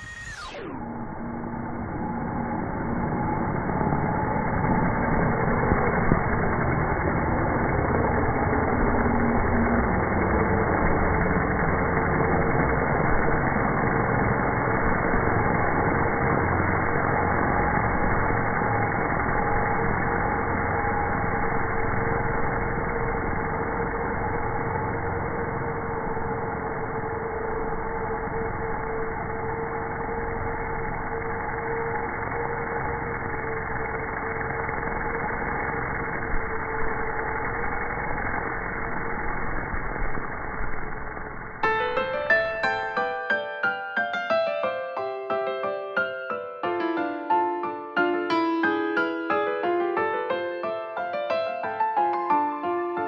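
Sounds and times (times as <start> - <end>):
drone propellers buzzing: 0.0 - 53.0.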